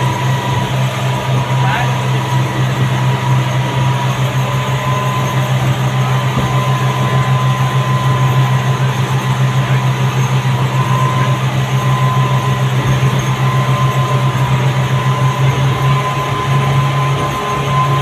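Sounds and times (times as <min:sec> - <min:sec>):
outboard motors droning: 0:00.0 - 0:18.0
wind: 0:00.0 - 0:18.0.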